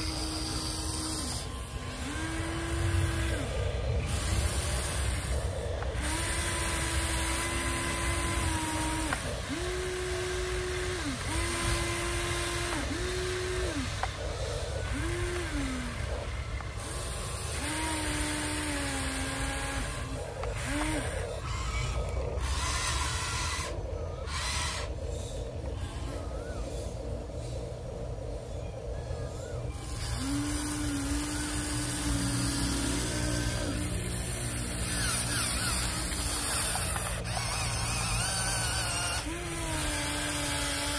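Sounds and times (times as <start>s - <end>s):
toy excavator motors whining: 0.0s - 40.9s.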